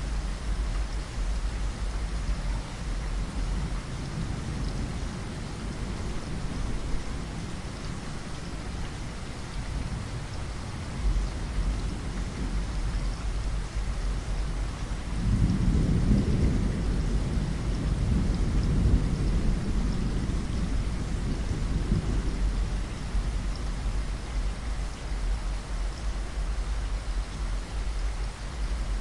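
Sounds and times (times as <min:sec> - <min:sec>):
rain pattering on a window: 0:00.0 - 0:29.0
thunder rumbling: 0:01.2 - 0:29.0.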